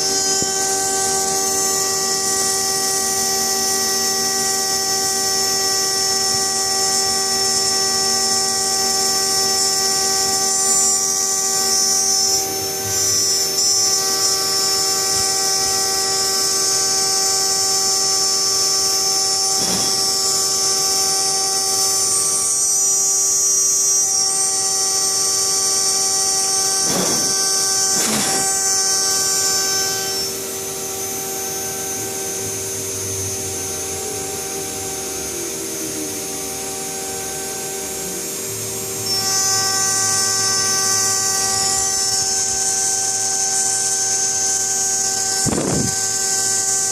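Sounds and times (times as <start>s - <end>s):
milling machine spindle whine: 0.0s - 46.9s.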